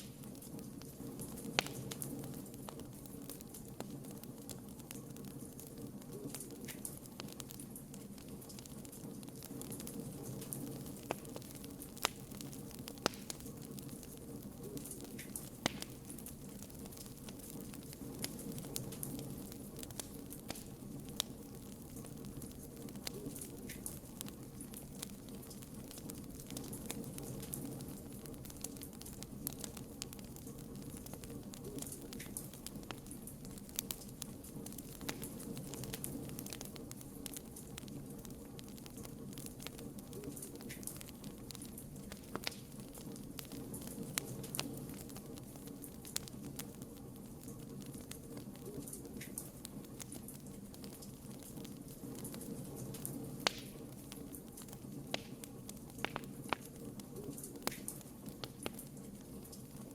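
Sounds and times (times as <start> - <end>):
campfire crackling: 0.0 - 59.9
fire popping: 0.0 - 59.9.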